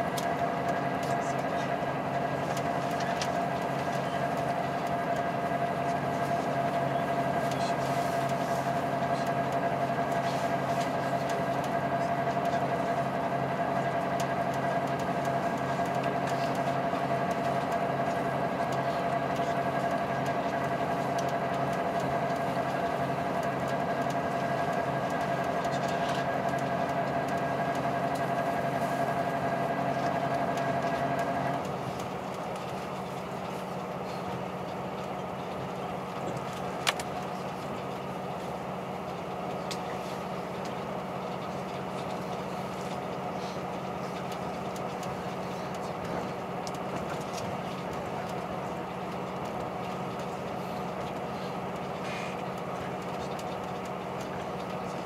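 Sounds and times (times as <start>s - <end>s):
diesel railcar engine hum: 0.0s - 55.0s.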